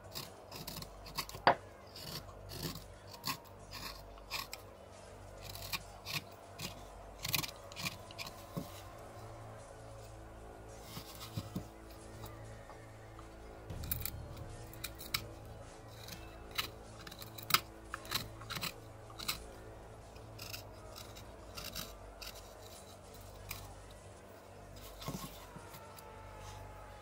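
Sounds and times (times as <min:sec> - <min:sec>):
knife scraping bark: 0:00.0 - 0:04.6, 0:05.3 - 0:09.6, 0:10.7 - 0:12.7, 0:13.7 - 0:23.9, 0:24.8 - 0:27.0.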